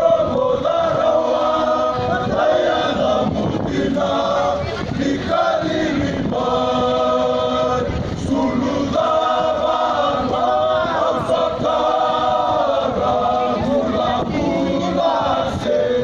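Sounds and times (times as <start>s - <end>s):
men singing together in parts: 0.0s - 16.0s.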